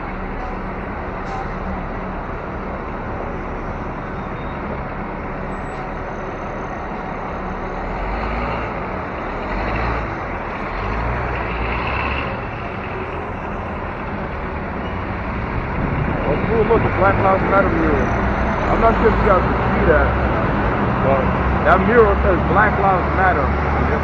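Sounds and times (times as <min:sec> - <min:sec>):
city street traffic: 0:00.0 - 0:24.0
heavy vehicle low rumble: 0:00.0 - 0:24.0.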